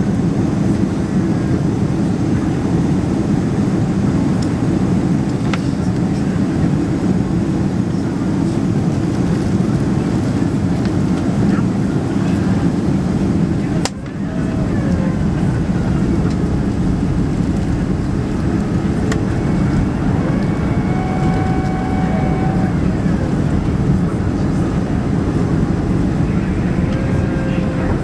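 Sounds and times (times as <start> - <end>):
airplane cabin engine roar: 0.0 - 28.0.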